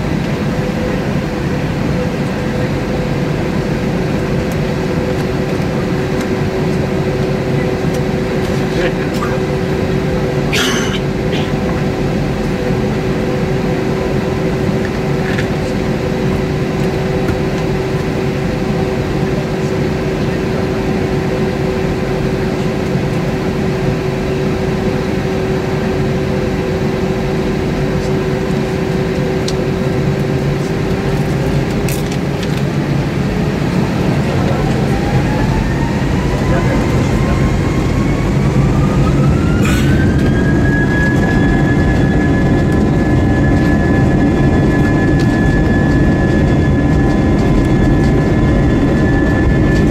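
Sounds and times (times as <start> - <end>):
jet engines heard from cabin: 0.0 - 49.9
engine whine rising in pitch: 0.6 - 49.9.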